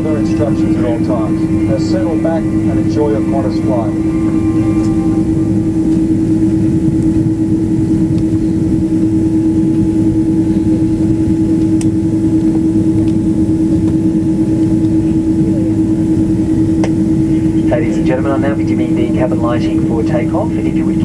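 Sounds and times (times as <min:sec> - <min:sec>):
airliner cabin droning hum: 0:00.0 - 0:21.0.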